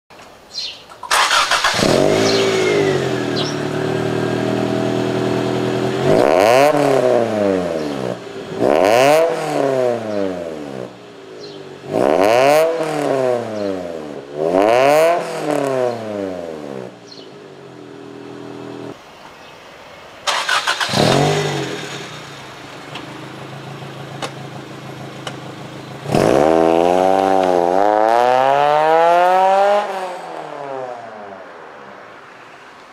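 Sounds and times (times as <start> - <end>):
car exhaust idling and revving: 1.7 - 19.0, 20.9 - 30.9.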